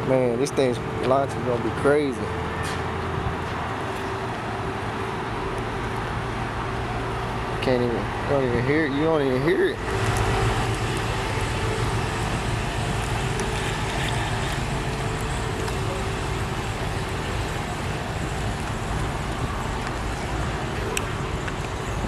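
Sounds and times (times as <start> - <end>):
vehicle noise rumble and hiss: 0.0 - 22.0.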